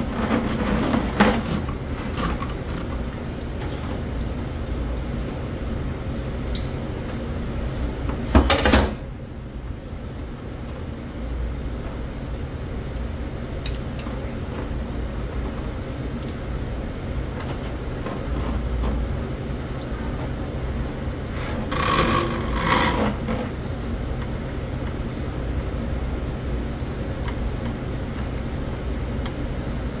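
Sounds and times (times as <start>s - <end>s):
drain machine motor humming: 0.0s - 30.0s.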